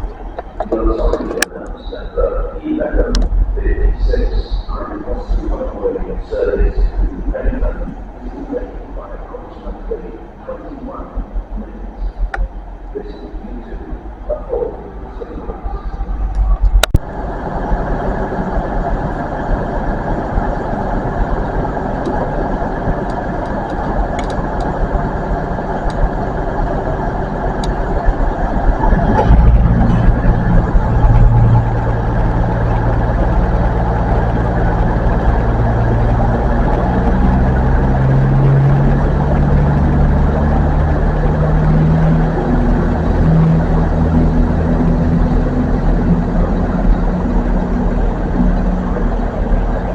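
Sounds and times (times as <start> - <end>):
background rumble: 0.0 - 49.9
diesel train engine running: 0.0 - 49.9.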